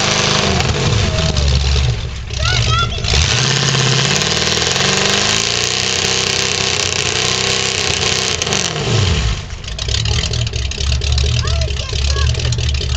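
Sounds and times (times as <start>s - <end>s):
truck engine revving: 0.0s - 12.9s.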